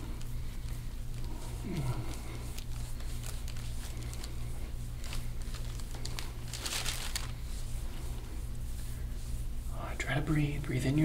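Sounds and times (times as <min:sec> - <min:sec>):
squishing and rubbing of skin: 0:00.0 - 0:11.0
steady low hum: 0:00.0 - 0:11.0.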